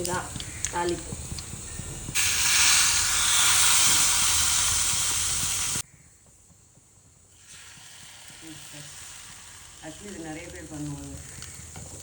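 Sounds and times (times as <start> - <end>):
tempering sizzling hiss: 0.0 - 12.0.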